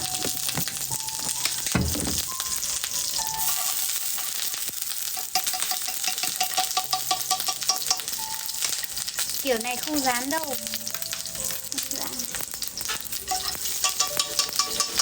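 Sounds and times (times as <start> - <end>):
wood fire crackling: 0.0 - 14.6.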